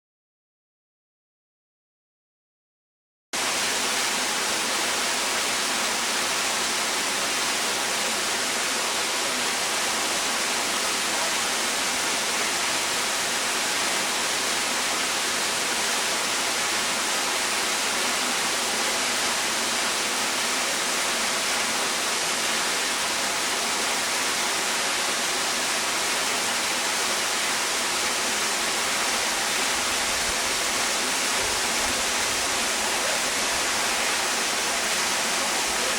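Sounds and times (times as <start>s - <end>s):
waterfall rushing: 3.4s - 35.9s.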